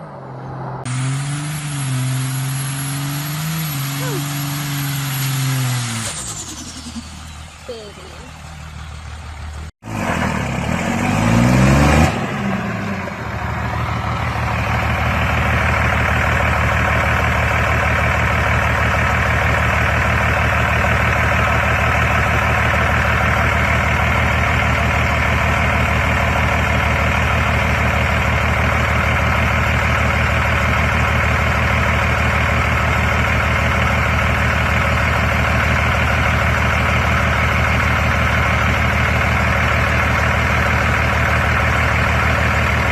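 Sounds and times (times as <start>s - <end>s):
diesel truck engine revving: 0.0s - 42.9s.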